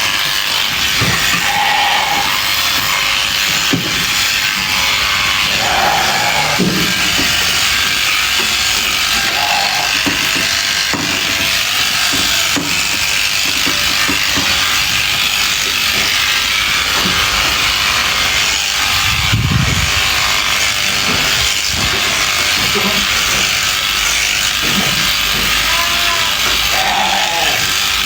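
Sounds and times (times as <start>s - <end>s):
electric sheep shears running: 0.0s - 28.0s.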